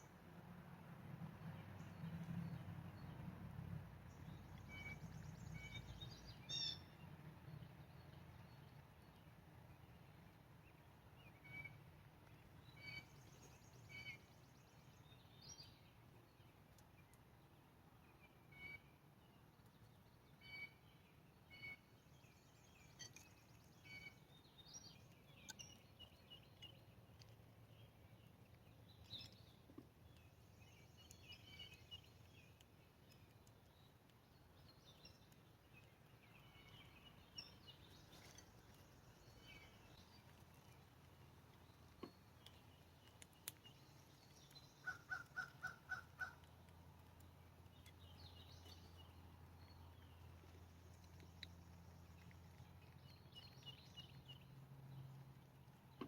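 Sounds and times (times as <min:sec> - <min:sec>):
quiet outdoor background noise: 0:00.0 - 0:56.0
short evenly spaced bird notes: 0:04.0 - 0:56.0
faint bird chirps and calls: 0:04.1 - 0:07.0, 0:09.8 - 0:17.3, 0:17.9 - 0:41.0, 0:41.6 - 0:55.2.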